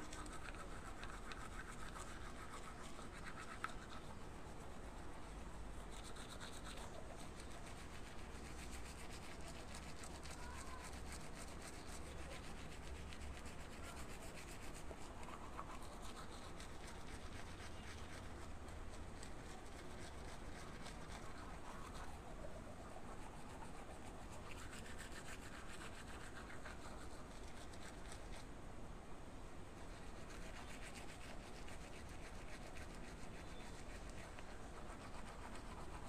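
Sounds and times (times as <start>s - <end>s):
toothbrush scrubbing teeth: 0.0s - 28.4s, 29.8s - 36.0s.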